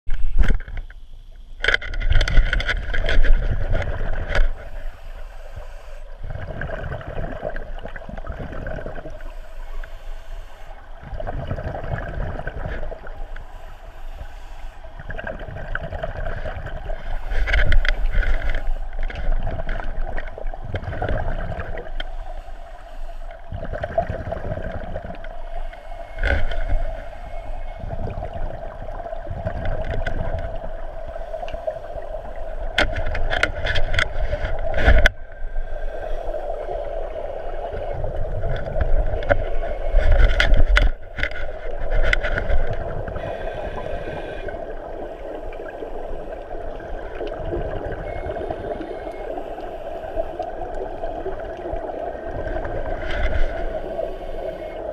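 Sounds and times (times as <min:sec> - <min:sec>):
steady mid-pitched hum: 0:00.1 - 0:54.9
exhaled bubbles gurgling underwater: 0:02.0 - 0:54.9.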